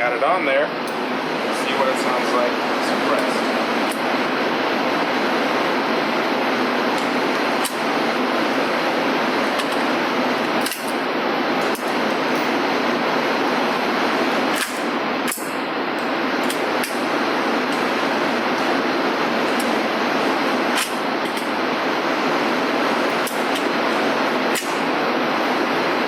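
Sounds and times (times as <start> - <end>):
loud steady rushing noise: 0.0 - 26.0.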